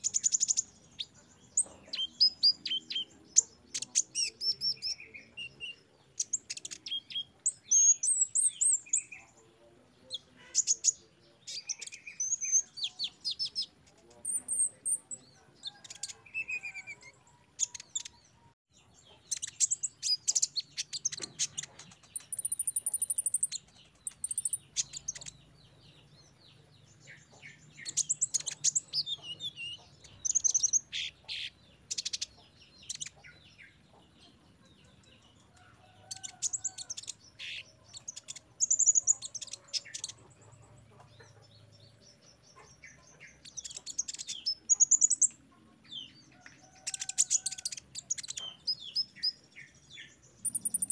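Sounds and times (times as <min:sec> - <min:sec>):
sunbird chirps and trills: 0:00.0 - 0:50.9.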